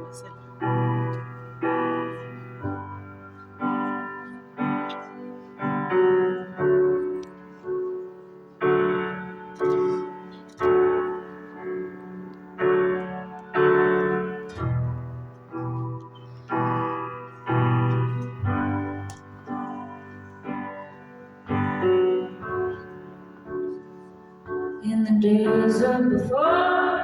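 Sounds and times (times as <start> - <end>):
piano chords: 0.0 - 27.0.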